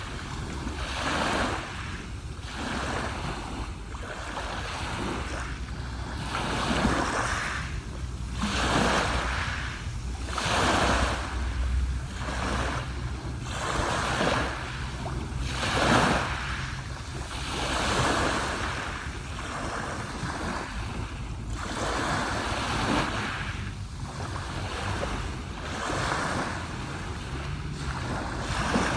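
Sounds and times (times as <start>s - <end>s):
sea waves washing on shore: 0.0s - 28.9s.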